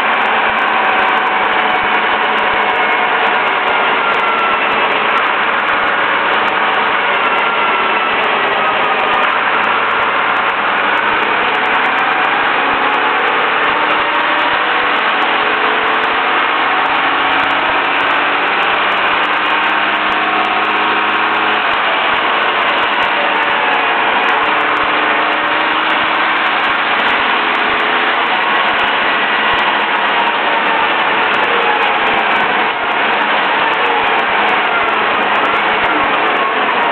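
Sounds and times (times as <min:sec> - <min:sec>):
bus engine: 0:00.0 - 0:36.9.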